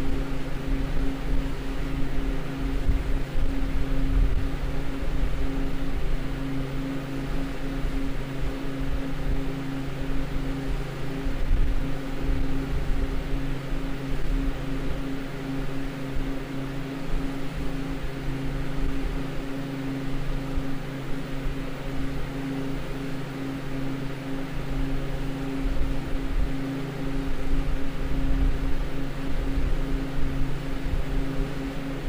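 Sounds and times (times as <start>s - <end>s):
freezer fan hum with rushing air: 0.0s - 32.0s.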